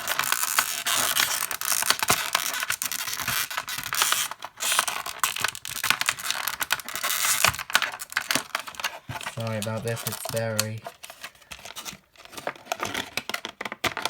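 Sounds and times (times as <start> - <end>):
packaging crackling and scraping: 0.0 - 14.0.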